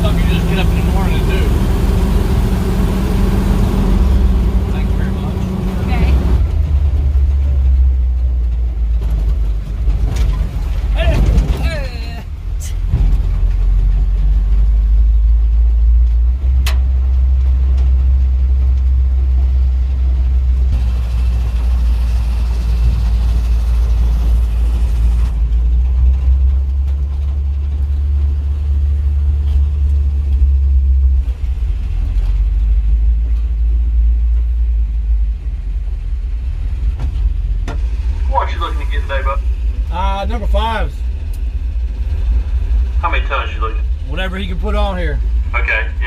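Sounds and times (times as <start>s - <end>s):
truck engine and road rumble: 0.0s - 46.0s.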